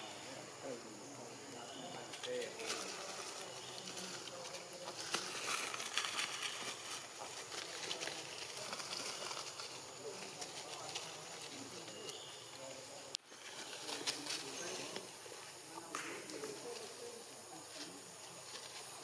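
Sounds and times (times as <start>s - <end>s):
steady hiss: 0.0s - 19.0s
faint crackles and rustles: 0.3s - 19.0s.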